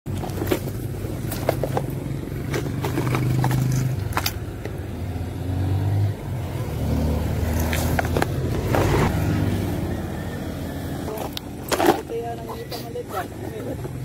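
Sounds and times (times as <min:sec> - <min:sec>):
vehicle engine idling: 0:00.1 - 0:14.0.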